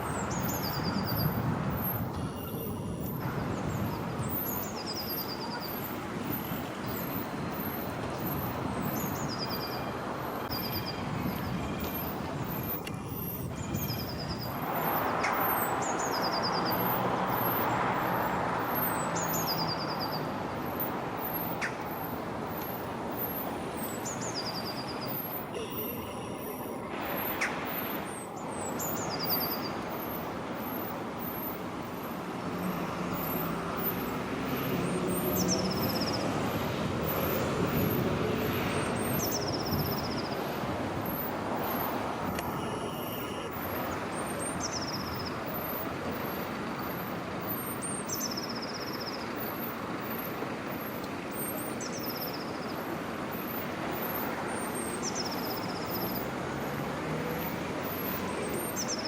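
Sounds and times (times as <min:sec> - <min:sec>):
steady traffic noise: 0:00.0 - 0:59.0.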